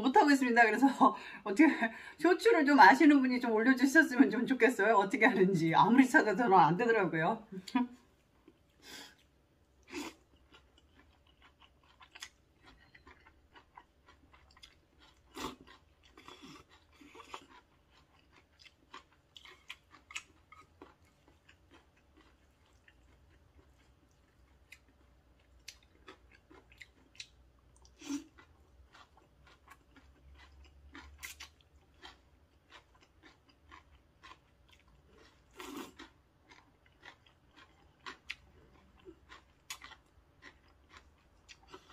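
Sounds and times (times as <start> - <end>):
chewing and mouth smacks: 8.2 - 41.9.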